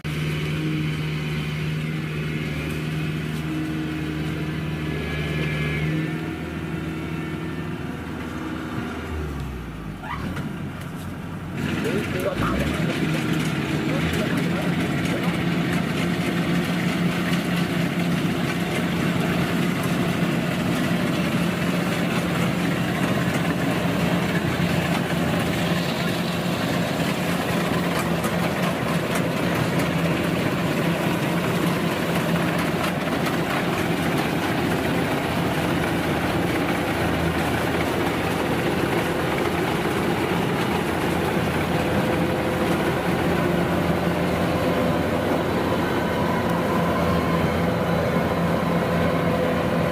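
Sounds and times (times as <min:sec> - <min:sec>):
combine harvester engine droning: 0:00.0 - 0:49.9.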